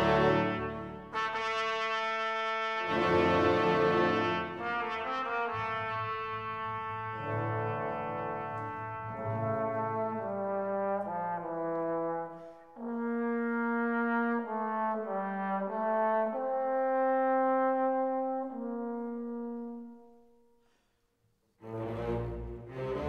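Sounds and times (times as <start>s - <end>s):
slow brass melody: 0.0s - 20.9s.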